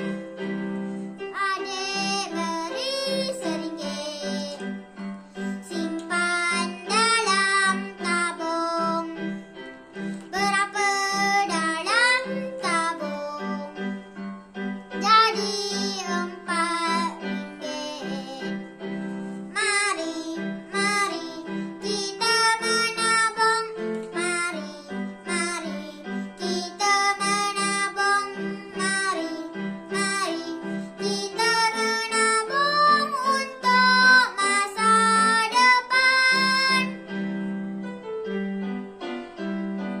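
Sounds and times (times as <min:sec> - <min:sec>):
instrumental backing music: 0:00.0 - 0:40.0
young boy singing: 0:01.2 - 0:04.8, 0:05.4 - 0:09.3, 0:10.2 - 0:14.0, 0:15.0 - 0:18.7, 0:19.5 - 0:37.0.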